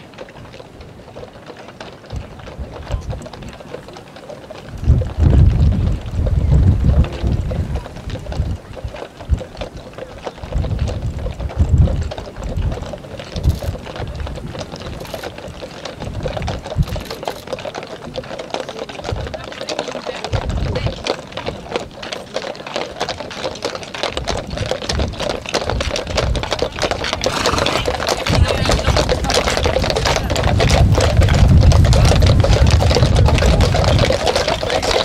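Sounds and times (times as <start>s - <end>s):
wind rumble on microphone: 0.0s - 4.0s, 4.6s - 18.4s, 19.0s - 22.1s, 22.9s - 35.0s
hooves clip-clopping on pavement: 0.0s - 35.0s.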